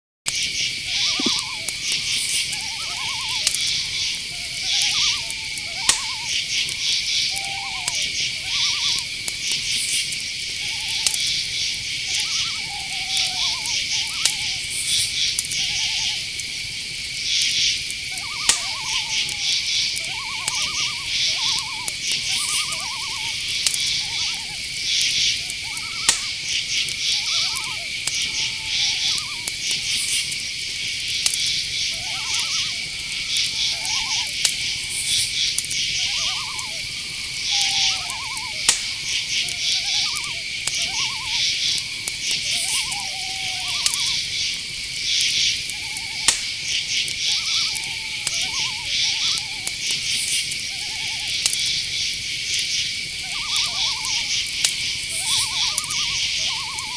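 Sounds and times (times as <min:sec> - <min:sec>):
crickets and insects chirping: 0:00.3 - 0:56.9
owl trilled calls: 0:00.5 - 0:56.9.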